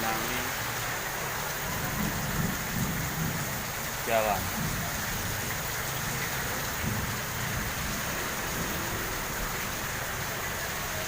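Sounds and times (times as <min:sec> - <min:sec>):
heavy rain pouring on street: 0:00.0 - 0:11.0.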